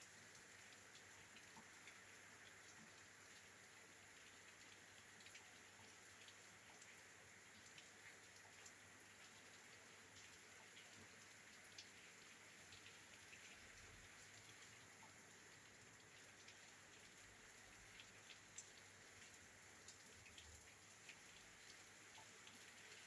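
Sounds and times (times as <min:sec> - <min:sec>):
faint steady rain: 0:00.0 - 0:23.0.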